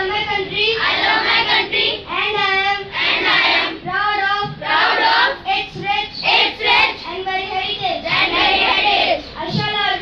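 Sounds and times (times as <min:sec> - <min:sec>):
children chanting in unison: 0:00.7 - 0:10.0.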